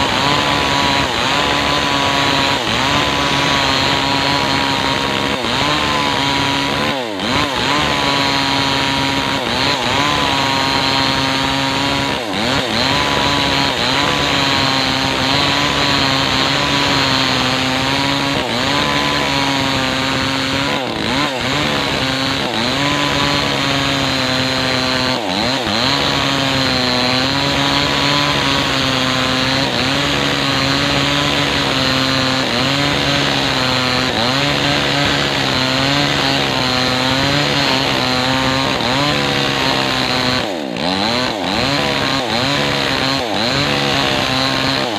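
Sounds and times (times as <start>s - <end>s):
chainsaw cutting log: 0.0s - 44.9s.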